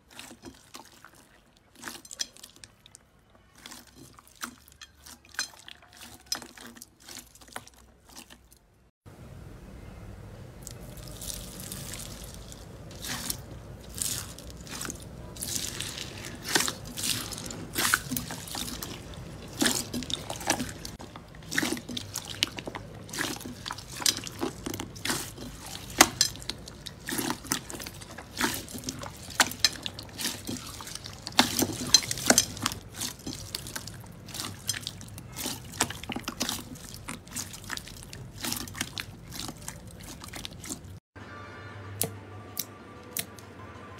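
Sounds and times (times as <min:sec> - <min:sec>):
slime squishing: 0:00.0 - 0:08.8, 0:10.6 - 0:41.0.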